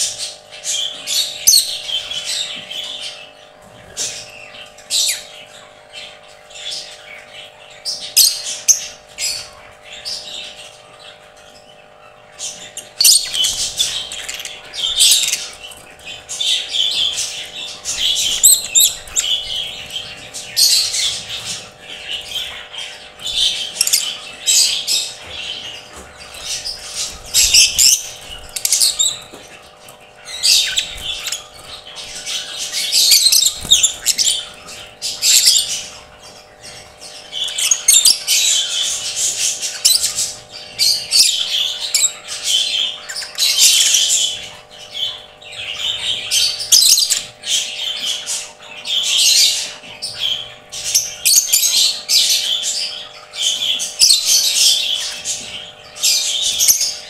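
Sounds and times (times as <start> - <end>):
lovebirds chirping and squawking: 0.0 - 57.0.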